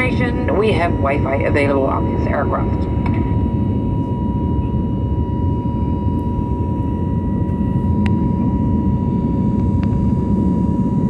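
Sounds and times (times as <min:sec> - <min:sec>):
airliner cabin rumble: 0:00.0 - 0:11.0
thin steady whine: 0:00.0 - 0:11.0.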